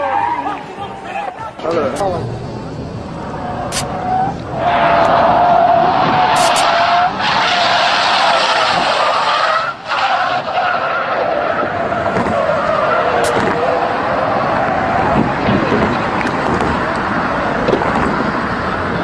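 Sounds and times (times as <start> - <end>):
car tyres squealing: 0.0 - 19.0
rushing noise: 1.8 - 19.0.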